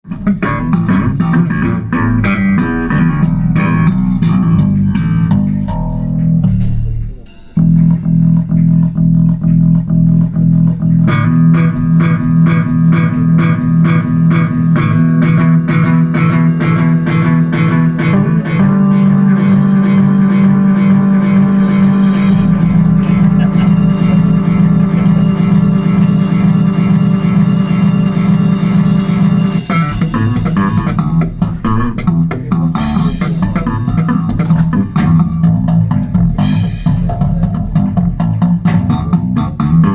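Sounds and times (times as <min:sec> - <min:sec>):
guitar music over loudspeakers: 0:00.0 - 0:39.9.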